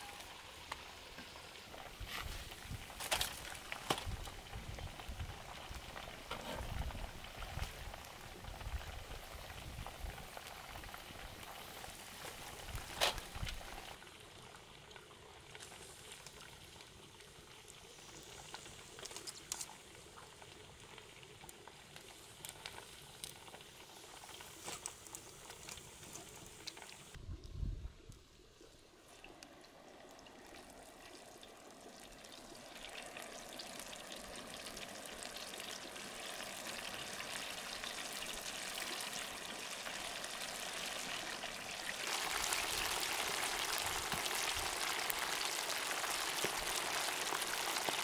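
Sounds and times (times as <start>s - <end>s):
chicken deep-frying in hot oil: 0.0s - 48.0s.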